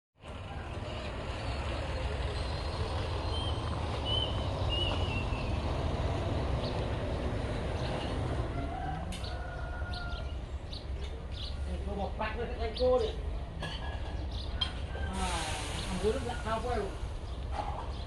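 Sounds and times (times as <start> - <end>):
diesel engine rumbling: 0.2 - 18.0.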